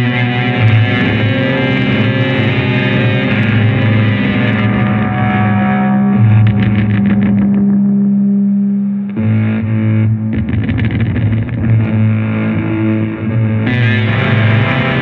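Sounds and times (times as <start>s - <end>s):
distorted electric guitar drone: 0.0s - 15.0s.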